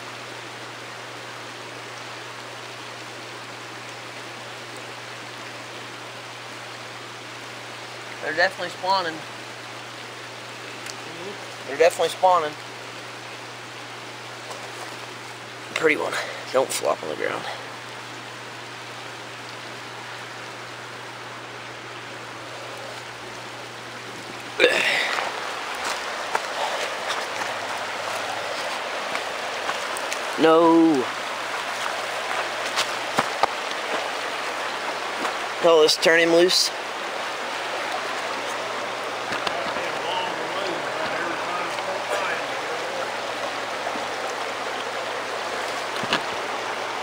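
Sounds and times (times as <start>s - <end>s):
creek rushing: 0.0s - 47.0s
mountain stream flowing: 0.0s - 47.0s.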